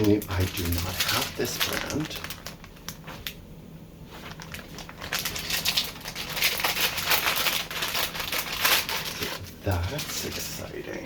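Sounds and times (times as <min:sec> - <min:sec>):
packaging crinkling: 0:00.0 - 0:03.4, 0:04.0 - 0:11.0.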